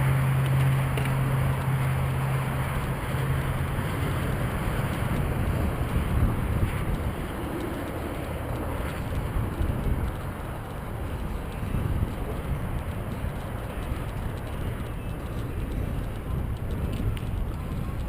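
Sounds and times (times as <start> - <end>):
bicycle ride rumble: 0.0 - 18.0
wind rushing over microphone: 0.0 - 18.0.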